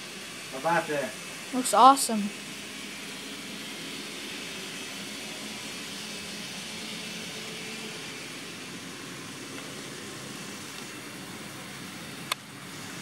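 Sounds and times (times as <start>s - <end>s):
model train motor whirring: 0.0s - 13.0s.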